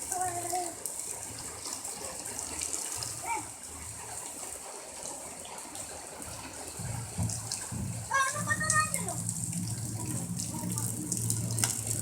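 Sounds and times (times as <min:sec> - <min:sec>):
steady rain falling: 0:00.0 - 0:12.0
water running and splashing: 0:00.0 - 0:12.0.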